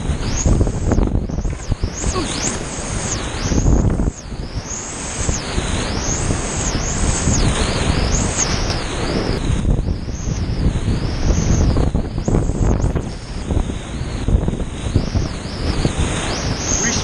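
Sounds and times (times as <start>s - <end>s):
waves splashing over kayak: 0.0s - 17.0s.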